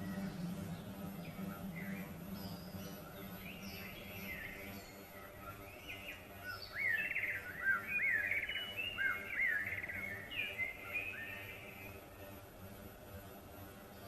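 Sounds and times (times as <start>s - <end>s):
birds chirping: 0.0s - 12.3s.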